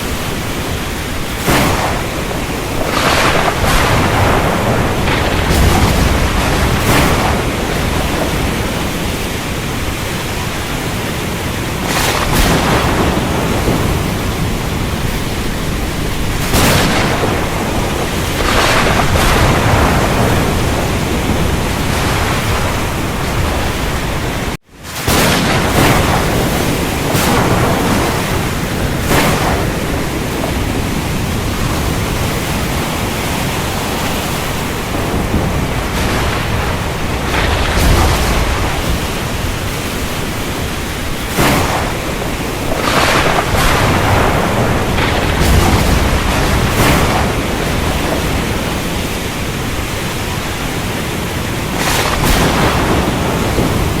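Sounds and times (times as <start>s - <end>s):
heavy rain downpour: 0.0s - 54.0s
thunder crashes: 0.0s - 54.0s.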